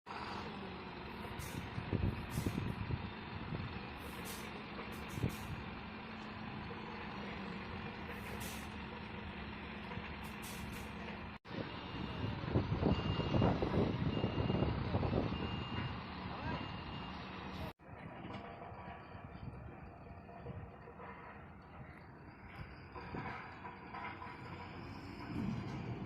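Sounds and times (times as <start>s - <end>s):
diesel truck engine running: 0.1s - 26.0s.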